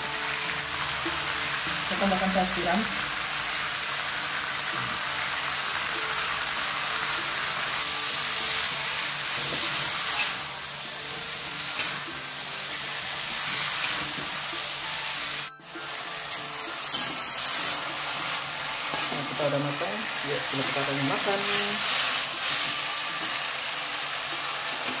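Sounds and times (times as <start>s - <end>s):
soft background music: 0.0s - 25.0s
vegetables sizzling in a wok: 0.0s - 25.0s.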